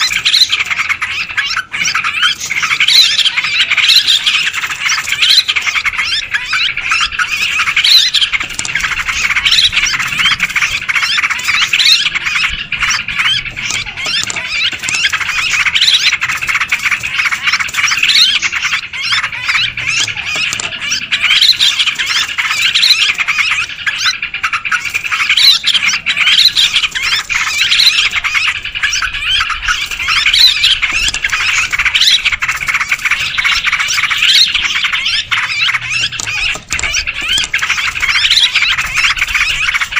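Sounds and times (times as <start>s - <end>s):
birds chattering and calling: 0.0s - 39.9s.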